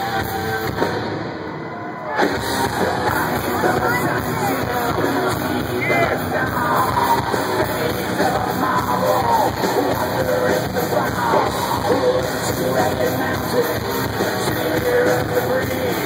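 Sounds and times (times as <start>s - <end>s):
drums: 0.0s - 16.0s
electric guitar: 0.0s - 16.0s
yelled vocals: 1.9s - 16.0s.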